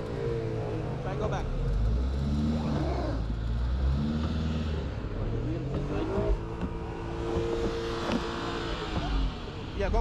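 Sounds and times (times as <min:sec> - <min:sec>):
van engine revving: 0:00.0 - 0:09.6.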